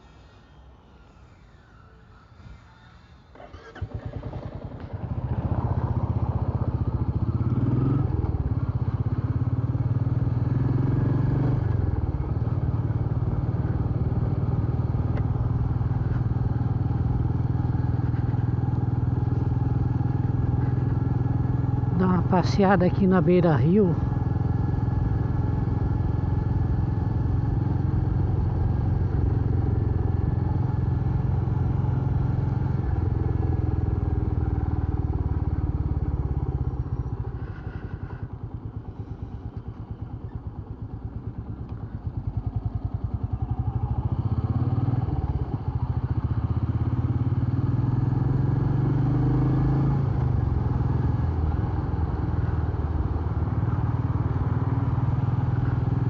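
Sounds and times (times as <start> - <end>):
motorcycle engine running: 3.4 - 56.0.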